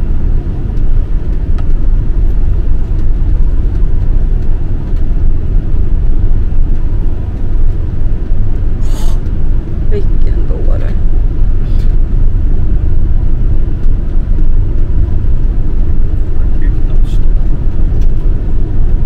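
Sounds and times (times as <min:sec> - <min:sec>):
low engine and road rumble: 0:00.0 - 0:19.0.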